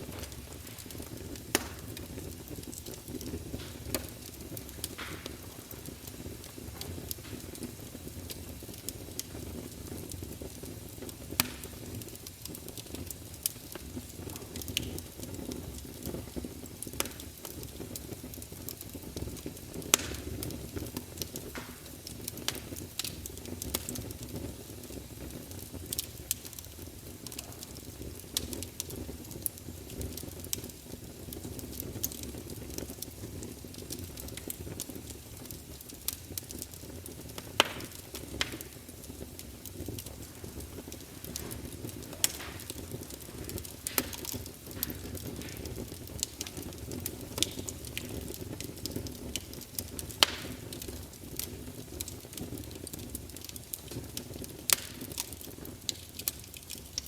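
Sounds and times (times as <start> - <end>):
burning wood crackling and popping: 0.0 - 57.0
campfire rumbling: 0.0 - 57.0.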